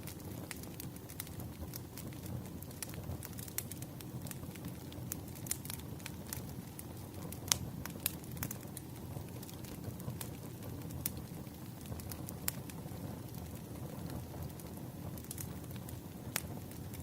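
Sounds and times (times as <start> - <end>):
firewood popping and snapping: 0.0 - 16.8
low rumble of flames: 0.0 - 17.0.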